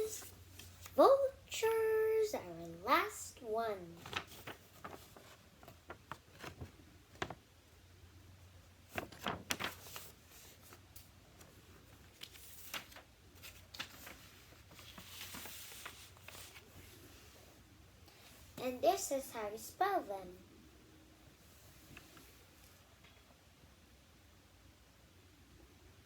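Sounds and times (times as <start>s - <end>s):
low steady hum: 0.0s - 26.0s
soft hiss: 0.0s - 26.0s.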